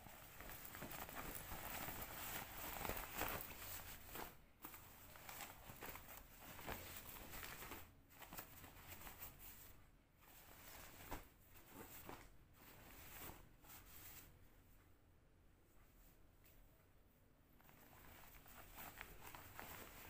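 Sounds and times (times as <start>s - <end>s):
cloth bag rustling: 0.0s - 14.3s, 17.6s - 20.0s.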